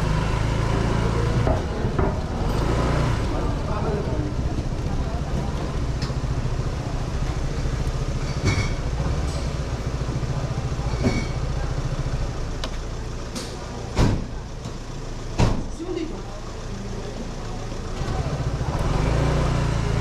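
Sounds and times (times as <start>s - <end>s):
motorcycle engine running: 0.0s - 20.0s
road and wind noise: 0.0s - 20.0s.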